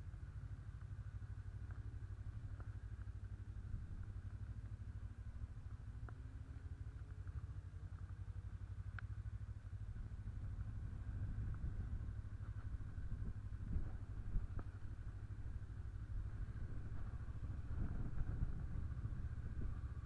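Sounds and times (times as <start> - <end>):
motorcycle engine low rumble: 0.0 - 20.0.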